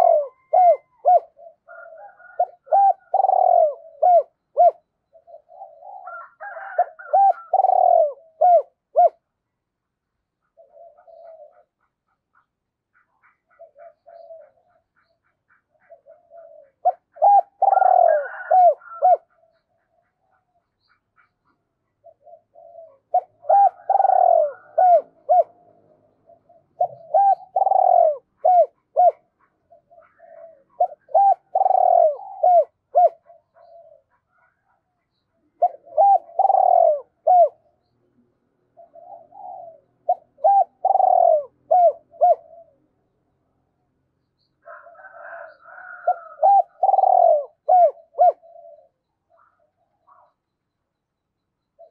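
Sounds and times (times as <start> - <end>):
dove cooing: 0.0 - 9.4, 10.4 - 37.9, 38.7 - 43.0, 44.6 - 50.4.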